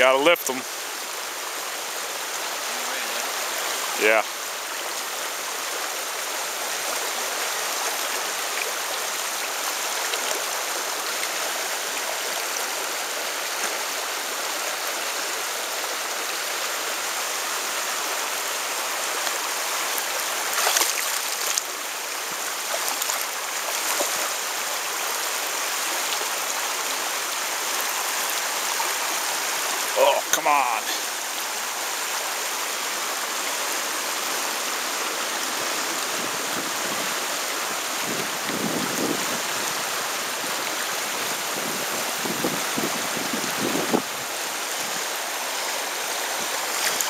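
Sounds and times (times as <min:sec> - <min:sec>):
stream flowing over stones: 0:00.0 - 0:47.0.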